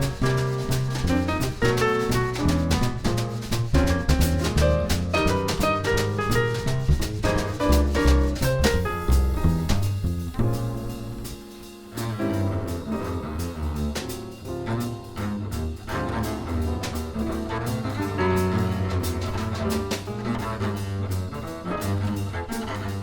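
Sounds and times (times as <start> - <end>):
jazz piano trio: 0.0 - 23.0
plucked double bass: 0.0 - 23.0.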